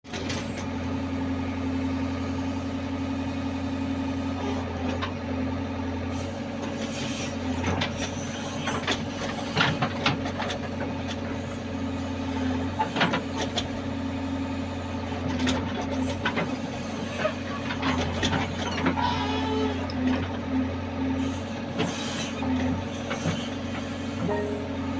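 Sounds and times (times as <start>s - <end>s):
construction machine engine running: 0.1s - 24.9s.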